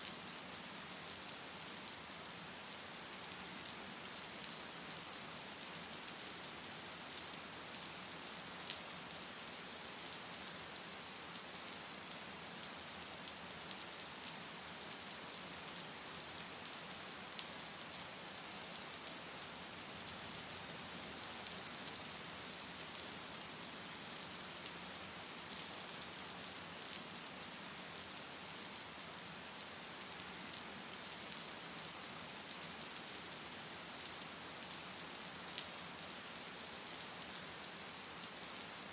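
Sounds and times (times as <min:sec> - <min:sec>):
light rain hiss: 0:00.0 - 0:38.9.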